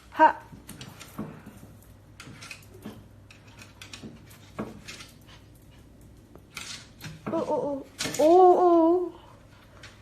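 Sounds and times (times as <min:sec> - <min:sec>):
dog claws clicking and scratching: 0:00.5 - 0:08.6.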